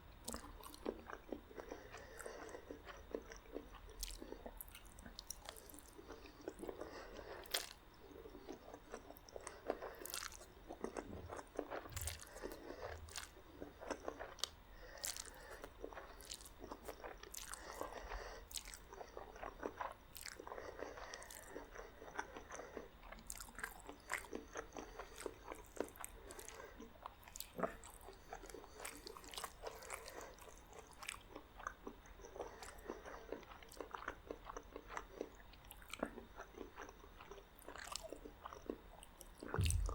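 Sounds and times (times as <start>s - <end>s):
wet chewing: 0.3s - 39.9s.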